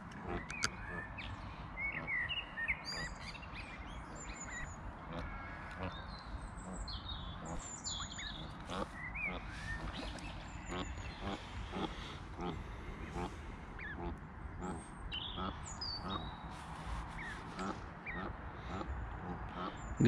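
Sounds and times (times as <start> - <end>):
small birds chirping: 0.2 - 20.0.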